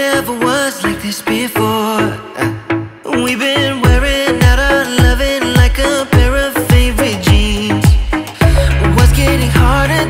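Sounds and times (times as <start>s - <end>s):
pop music with deep kick drums: 0.0s - 10.0s.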